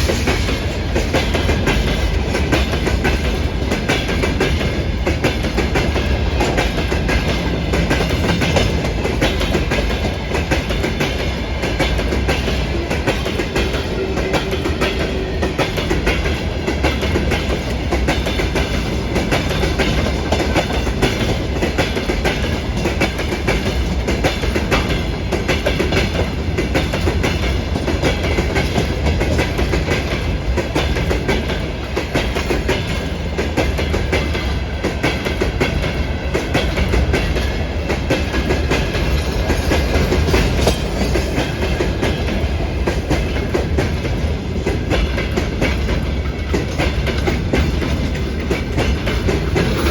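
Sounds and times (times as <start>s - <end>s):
freight train wheels clacking: 0.0s - 49.9s
heavy train rumble: 0.0s - 49.9s.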